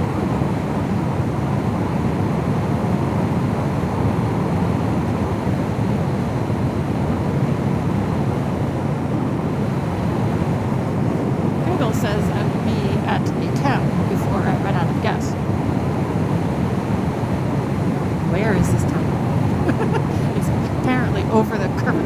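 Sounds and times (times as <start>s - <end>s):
car interior tyre and engine drone: 0.0s - 22.0s.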